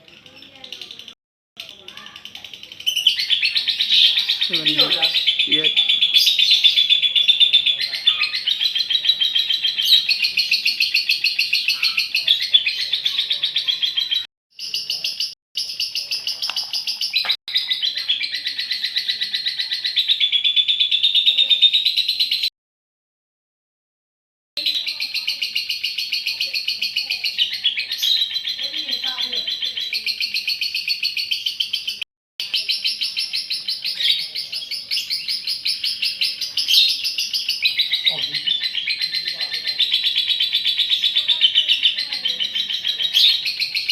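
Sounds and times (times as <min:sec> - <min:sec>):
lovebird chattering song: 0:00.0 - 0:22.5, 0:24.6 - 0:43.9.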